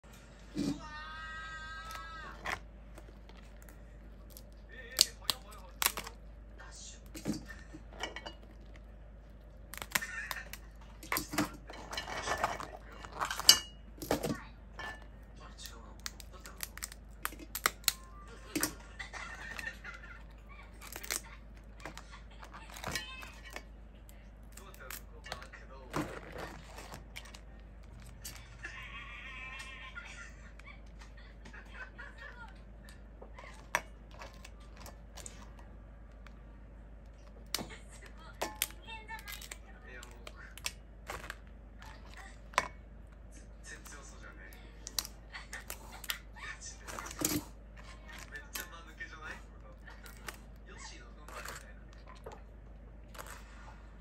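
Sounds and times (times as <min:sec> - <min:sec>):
crab shells clattering: 0:01.7 - 0:28.6, 0:33.4 - 0:36.4, 0:37.0 - 0:53.5.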